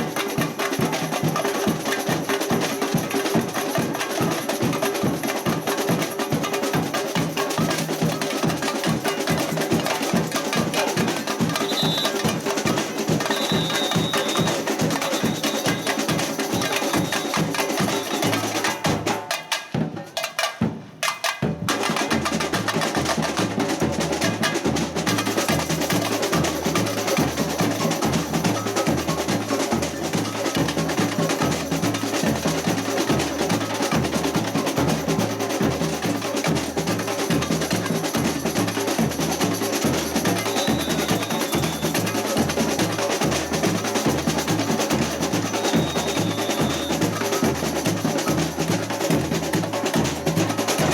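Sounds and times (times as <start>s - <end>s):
samba percussion ensemble: 0.0s - 50.9s.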